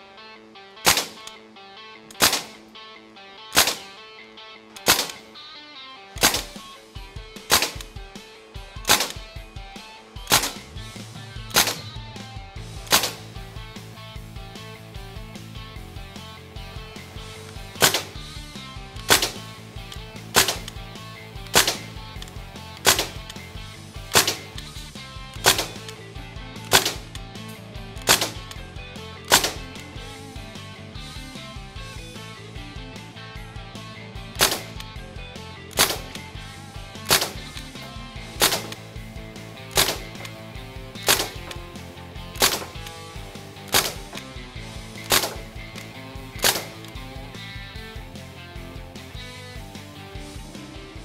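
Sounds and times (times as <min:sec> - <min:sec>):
background music: 0:00.0 - 0:51.0
bb rifle shots: 0:00.8 - 0:02.8, 0:03.4 - 0:13.9, 0:14.6 - 0:31.4, 0:33.8 - 0:49.7.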